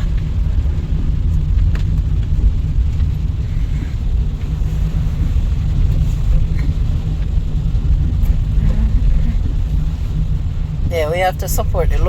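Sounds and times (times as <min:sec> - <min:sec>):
car driving rumble: 0:00.0 - 0:12.0
tyre and road noise: 0:00.0 - 0:12.0.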